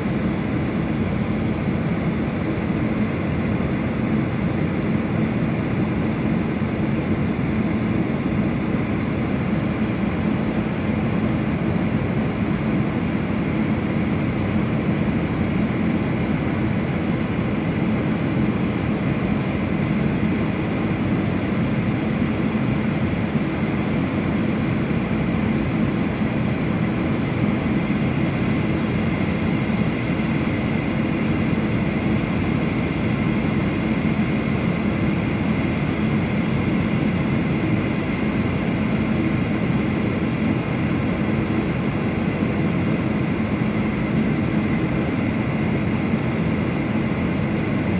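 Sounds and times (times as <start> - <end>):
jet engine cabin drone: 0.0 - 47.9.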